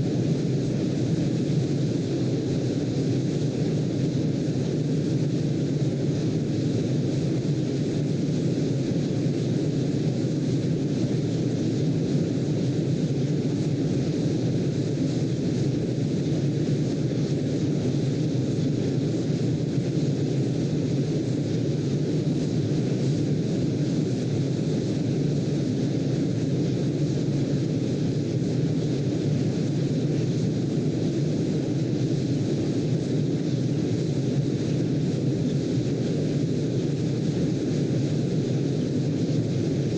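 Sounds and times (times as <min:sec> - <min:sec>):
steady brown noise: 0:00.0 - 0:39.9.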